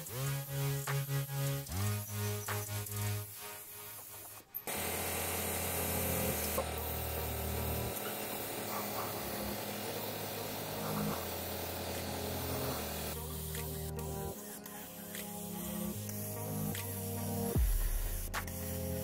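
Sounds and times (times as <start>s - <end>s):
spray gun hissing: 1.4s - 19.0s.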